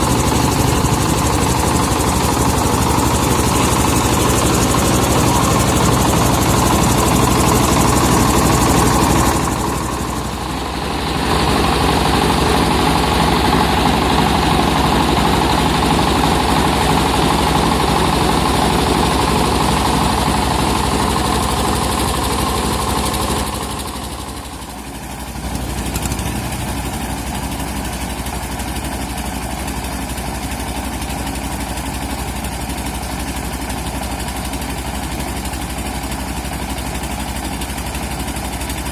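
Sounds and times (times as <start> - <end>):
rice milling machine running: 0.0 - 38.9.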